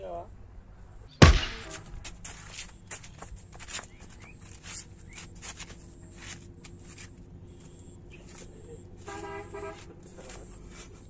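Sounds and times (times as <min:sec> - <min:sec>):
flip-flop footsteps on pavement: 0:01.6 - 0:11.0
small clicks and scuffs: 0:02.0 - 0:11.0.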